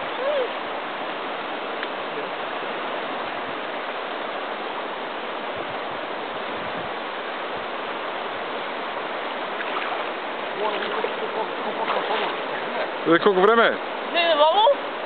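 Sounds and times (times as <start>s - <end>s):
rush of moving water: 0.0s - 15.0s.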